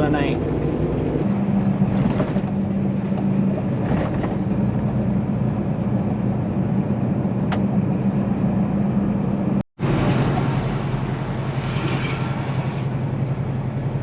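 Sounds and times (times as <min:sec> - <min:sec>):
road noise: 0:00.0 - 0:14.0
truck engine hum: 0:00.0 - 0:14.0.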